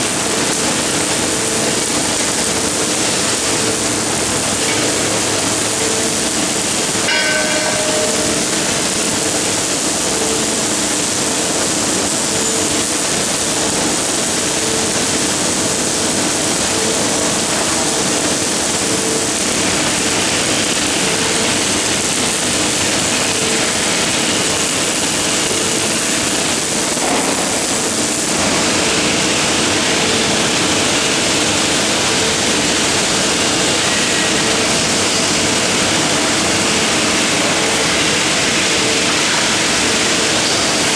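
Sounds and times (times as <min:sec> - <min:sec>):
welding arc hiss: 0:00.0 - 0:40.9.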